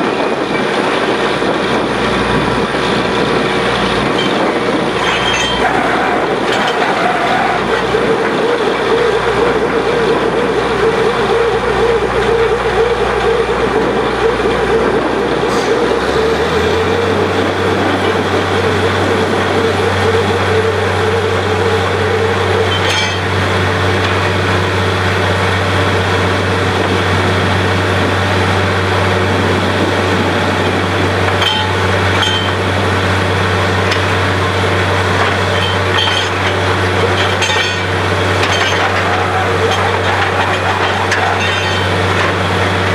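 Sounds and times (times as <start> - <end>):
drilling rig machinery droning: 0.0 - 42.9.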